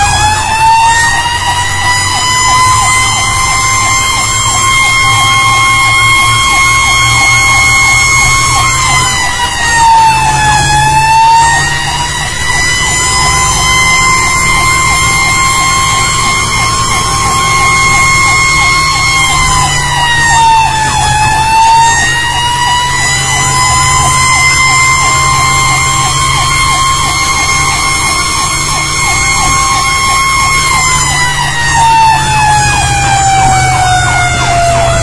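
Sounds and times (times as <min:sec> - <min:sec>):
fast siren chirps: 0:00.0 - 0:35.0
fire engine siren: 0:00.0 - 0:35.0
truck engine rumble: 0:00.0 - 0:35.0.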